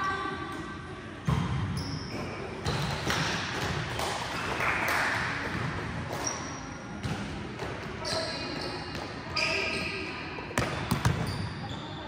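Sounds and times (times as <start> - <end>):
gym background noise: 0.0 - 12.0.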